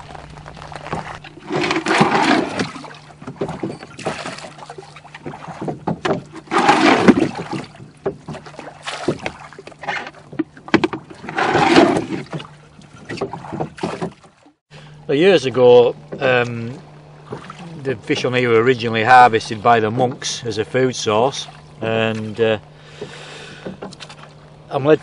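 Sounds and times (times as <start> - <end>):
oars swishing through water: 0.0 - 25.0
wood knocking in boat: 0.8 - 14.6, 15.5 - 24.5.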